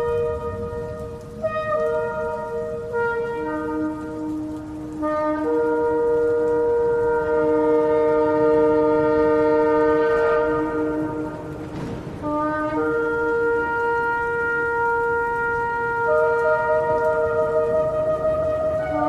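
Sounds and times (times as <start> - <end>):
shofar long blasts: 0.0 - 19.0.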